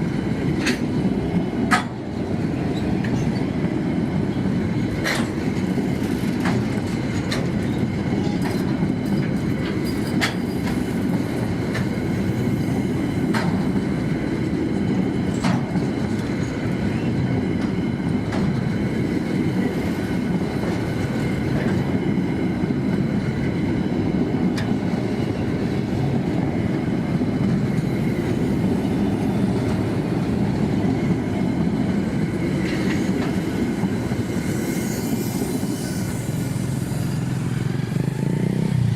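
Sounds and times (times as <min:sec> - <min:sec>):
train wagons rumbling past: 0:00.0 - 0:38.9.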